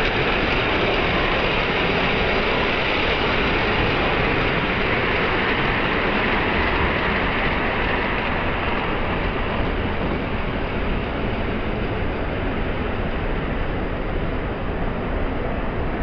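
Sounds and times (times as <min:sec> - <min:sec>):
model trains running: 0:00.0 - 0:16.0.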